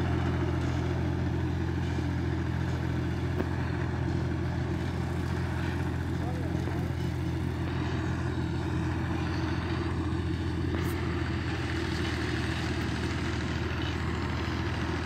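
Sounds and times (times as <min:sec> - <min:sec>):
tractor diesel engine drone: 0:00.0 - 0:15.0.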